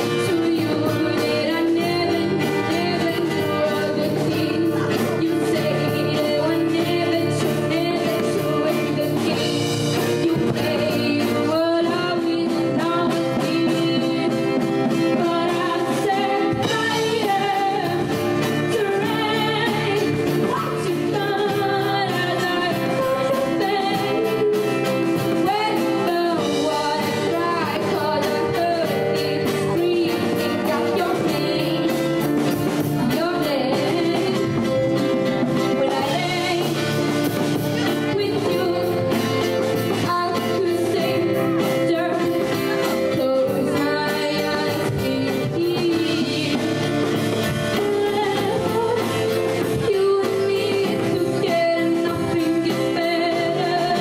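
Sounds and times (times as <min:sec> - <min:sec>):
acoustic guitar: 0:00.0 - 0:54.0
bongos: 0:00.0 - 0:54.0
drums: 0:00.0 - 0:54.0
girl singing into microphone: 0:00.0 - 0:54.0.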